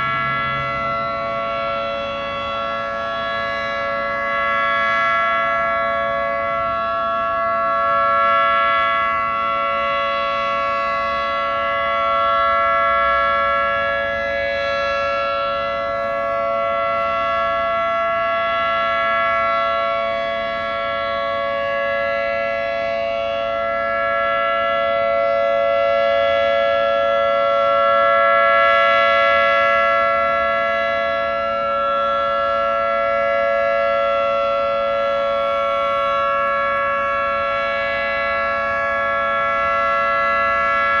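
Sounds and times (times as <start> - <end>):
rotating warning siren chord: 0.0 - 41.0.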